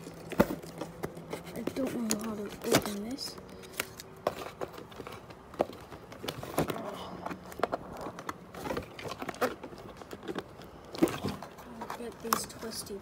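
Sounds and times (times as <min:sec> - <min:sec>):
hands handling cardboard box: 0:00.0 - 0:13.0.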